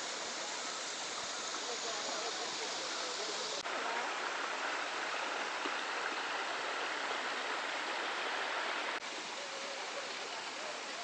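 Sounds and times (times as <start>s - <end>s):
waterfall rushing and splashing: 0.0s - 11.0s.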